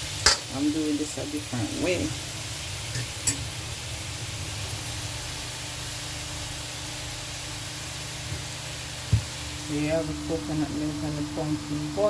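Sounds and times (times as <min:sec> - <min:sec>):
food hissing in pots: 0:00.0 - 0:12.0.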